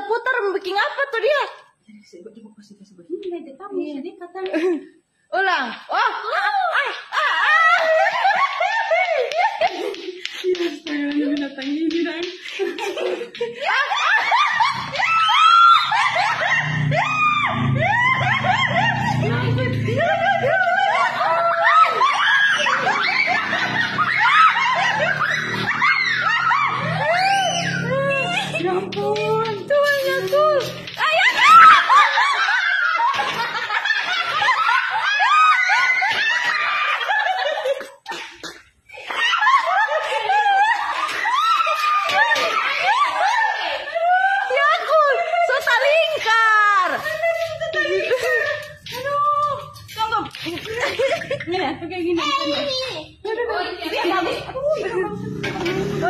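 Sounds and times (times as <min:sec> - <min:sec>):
high-pitched laughing: 0:05.9 - 0:56.0.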